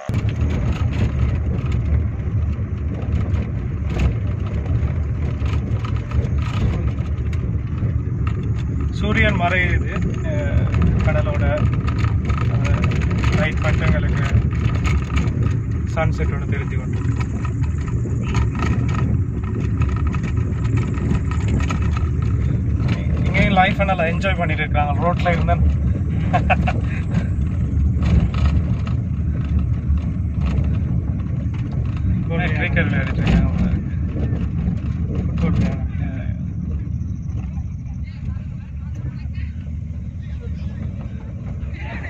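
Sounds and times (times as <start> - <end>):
car bumps and rattles: 0.0 - 42.0
engine and tyre rumble: 0.0 - 42.0.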